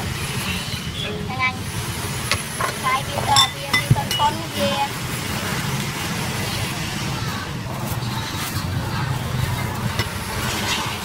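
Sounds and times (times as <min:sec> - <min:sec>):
passing vehicles rumble: 0:00.0 - 0:11.0.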